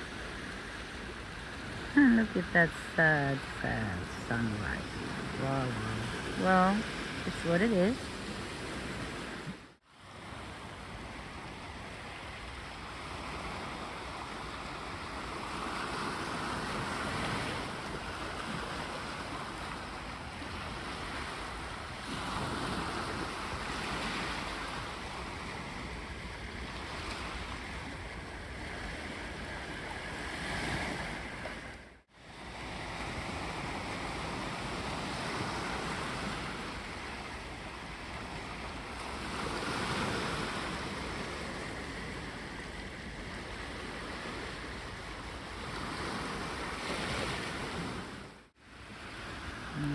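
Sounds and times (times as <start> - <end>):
sea waves washing onto beach: 0.0 - 49.9.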